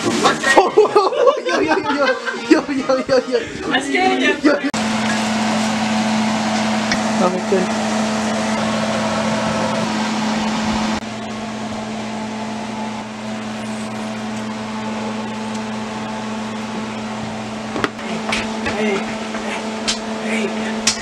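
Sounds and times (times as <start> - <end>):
mechanical hum with hiss: 0.0 - 21.0.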